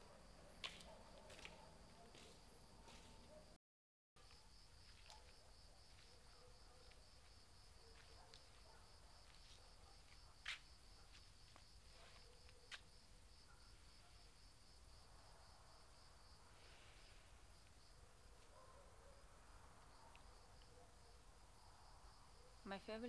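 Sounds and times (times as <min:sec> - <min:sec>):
crickets chirping: 0:04.2 - 0:23.0.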